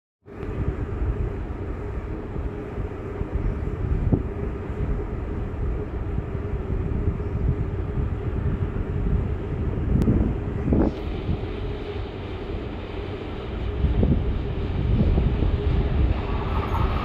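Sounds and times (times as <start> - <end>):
faint steady hum: 0.3 - 17.0
steady low rumble: 0.3 - 17.0
wind buffeting microphone: 0.3 - 17.0.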